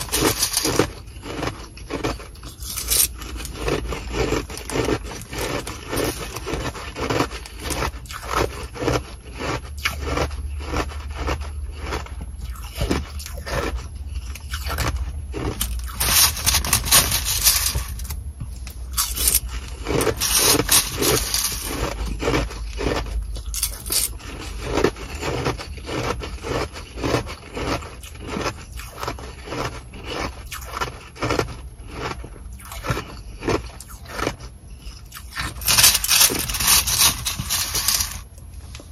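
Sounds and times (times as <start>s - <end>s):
plastic spoon scraping ice in bag: 0.0s - 31.4s, 35.1s - 38.9s
crunching and chewing ice: 0.0s - 38.9s.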